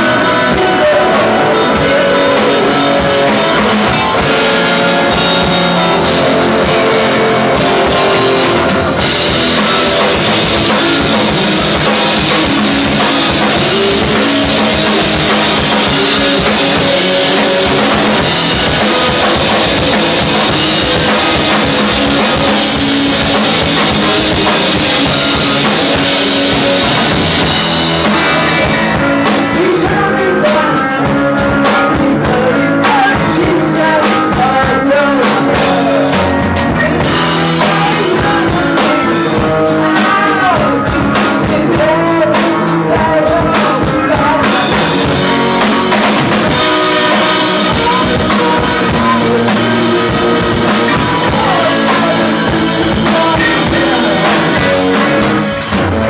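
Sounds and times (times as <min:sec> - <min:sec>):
drum kit: 0:00.0 - 0:56.0
electric guitar: 0:00.0 - 0:56.0
man singing: 0:00.0 - 0:56.0.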